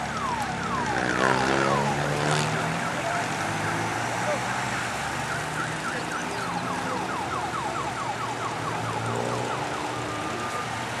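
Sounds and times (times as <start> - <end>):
siren fast yelp: 0.0 - 10.8.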